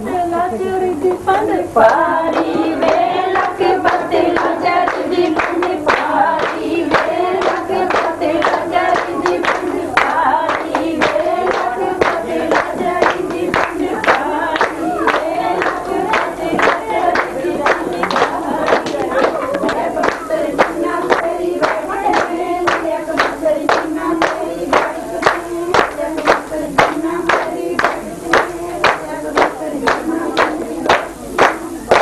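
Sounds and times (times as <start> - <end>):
voices singing together: 0.0 - 32.0
rhythmic hand-clapping: 1.0 - 32.0.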